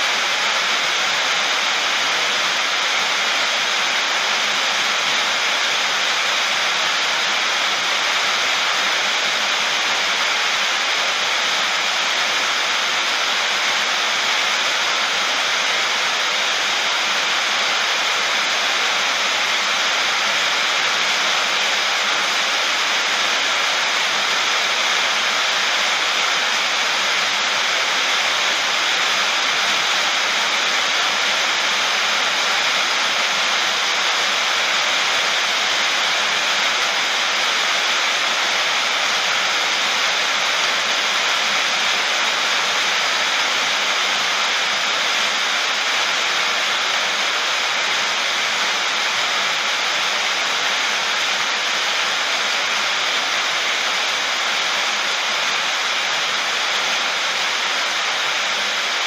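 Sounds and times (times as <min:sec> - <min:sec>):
heavy rain on metal roof: 0:00.0 - 0:59.0.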